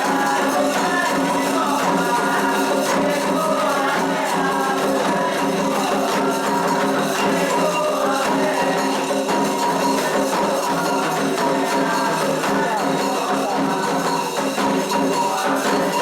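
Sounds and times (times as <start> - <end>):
jingling and rattling percussion: 0.0 - 16.0.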